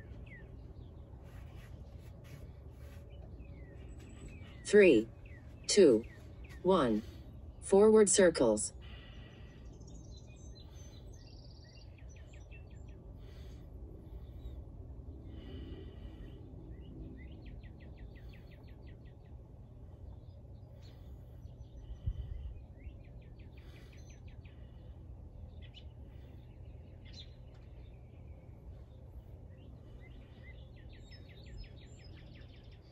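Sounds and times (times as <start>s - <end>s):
small birds chirping and trilling: 0.0s - 7.7s, 8.6s - 32.9s
low background rumble: 0.0s - 32.9s.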